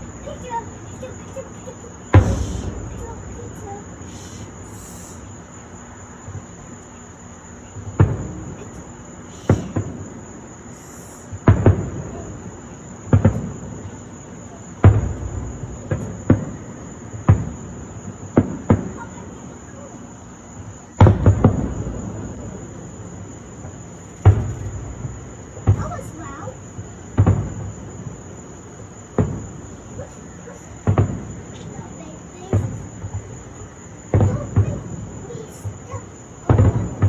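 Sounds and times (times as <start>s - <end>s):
fireworks booming: 0.0s - 37.0s
insects chirring: 0.0s - 37.0s.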